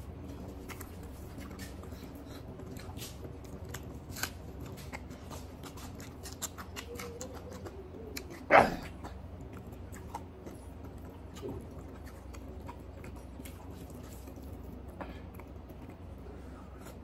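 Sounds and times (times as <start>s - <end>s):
chewing with open mouth: 0.0s - 17.0s
steady low hum: 0.0s - 17.0s.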